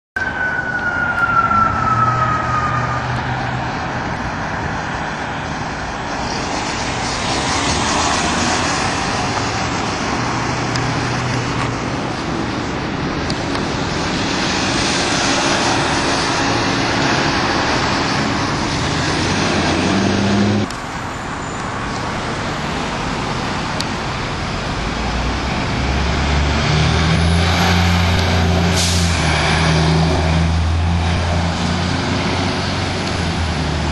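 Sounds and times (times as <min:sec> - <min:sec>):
diesel engines revving: 0:00.2 - 0:33.9
emergency vehicle sirens: 0:00.2 - 0:33.9.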